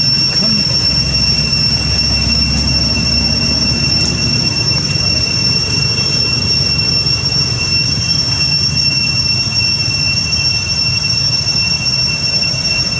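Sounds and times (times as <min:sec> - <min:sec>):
insects droning: 0:00.0 - 0:12.9.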